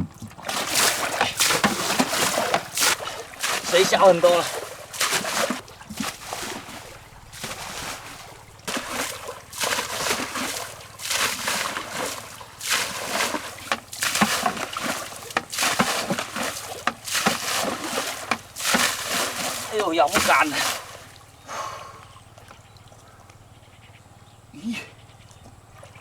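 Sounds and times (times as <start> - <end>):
water sloshing and splashing: 0.0 - 21.4, 22.0 - 23.6, 25.4 - 26.0.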